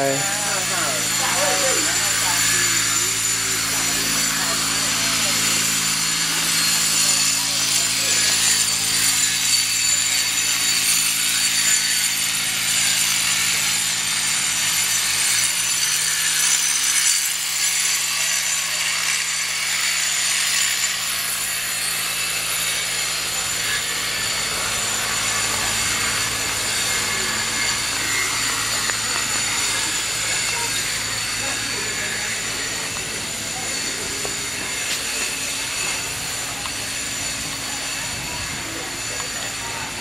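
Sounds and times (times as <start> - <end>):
wood being sawn: 0.0 - 40.0.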